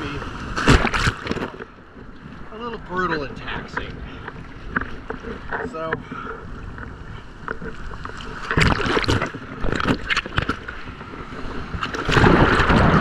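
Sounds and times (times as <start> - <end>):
waves breaking and splashing: 0.0 - 13.0
wind buffeting microphone: 0.0 - 13.0.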